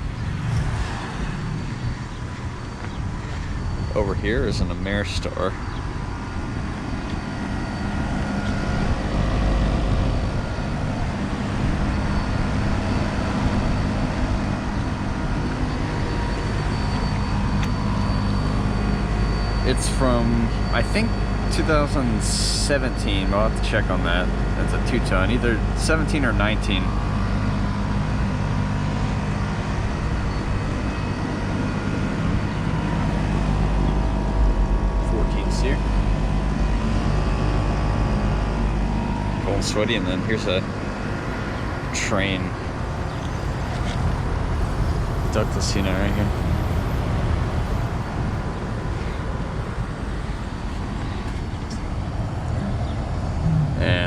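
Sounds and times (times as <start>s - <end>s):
faint high whine: 0.0s - 54.0s
faint steady tones: 0.0s - 54.0s
air conditioner unit humming: 1.0s - 54.0s.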